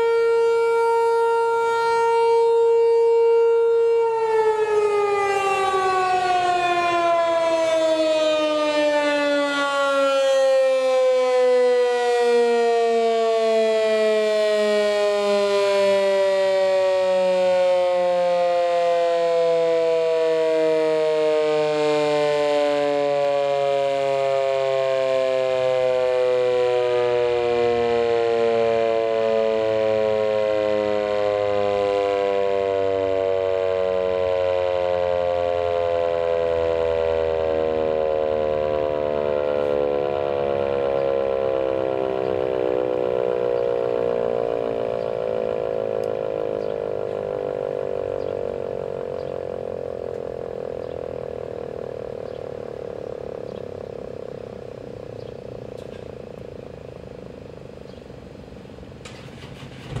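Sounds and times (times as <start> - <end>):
siren winding down: 0.0 - 58.4, 59.0 - 60.0.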